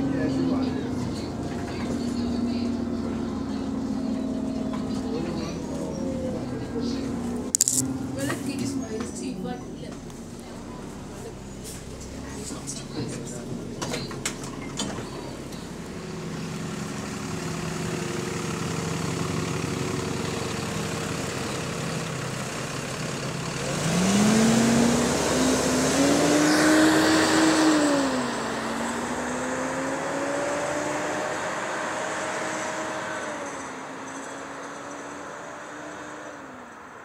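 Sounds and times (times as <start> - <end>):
bus engine idling and whining: 0.0 - 37.0.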